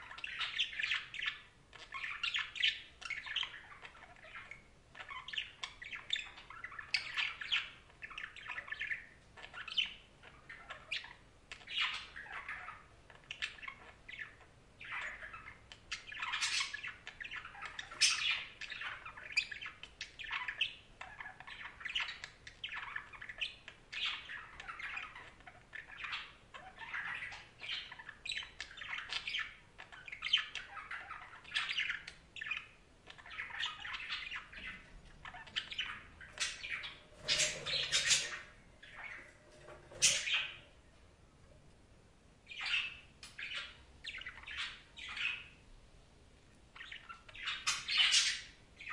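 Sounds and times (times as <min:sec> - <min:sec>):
budgies chattering: 0:00.0 - 0:41.0, 0:42.5 - 0:45.6, 0:46.7 - 0:48.9.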